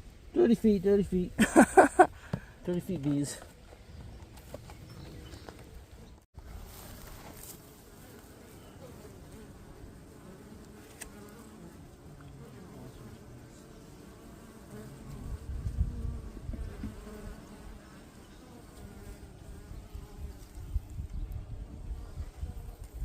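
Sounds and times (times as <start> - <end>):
honeybees buzzing: 0.2 - 23.0.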